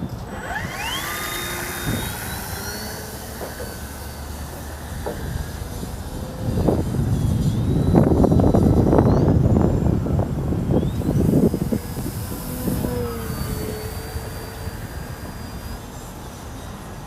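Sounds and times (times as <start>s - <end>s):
model plane motor whine: 0.0s - 17.0s
wind buffeting microphone: 0.0s - 17.0s.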